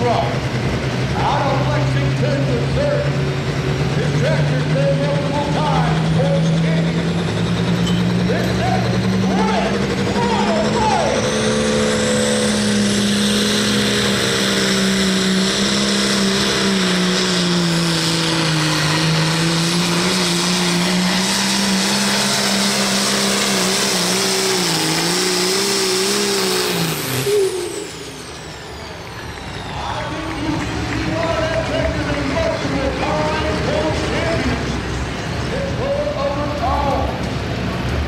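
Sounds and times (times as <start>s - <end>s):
tractor engine at full throttle: 0.0s - 38.0s.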